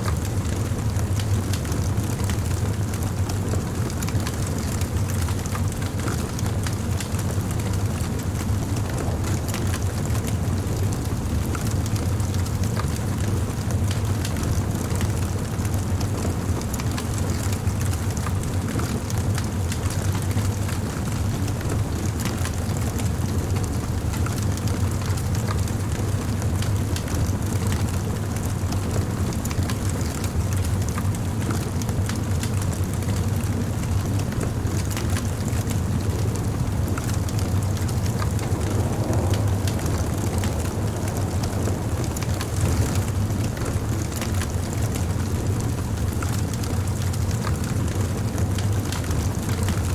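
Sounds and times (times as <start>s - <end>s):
bonfire flame rumble: 0.0s - 49.9s
fire crackling and popping: 0.0s - 49.9s.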